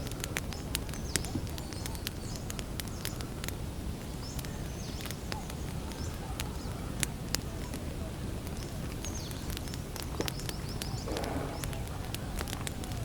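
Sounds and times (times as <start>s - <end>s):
birds chirping faintly: 0.0s - 13.0s
campfire crackling and popping: 0.0s - 13.0s
low rumble of burning: 0.0s - 13.0s.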